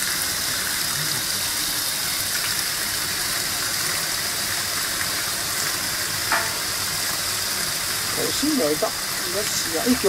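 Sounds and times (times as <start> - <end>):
water gushing into washing machine: 0.0 - 10.0.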